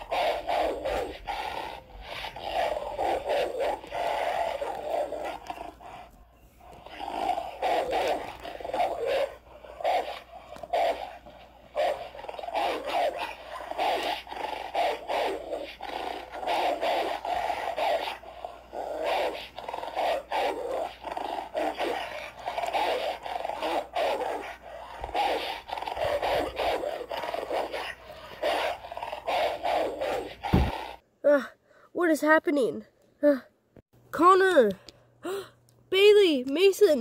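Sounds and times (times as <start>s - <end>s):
dogs snarling and growling: 0.0s - 31.0s.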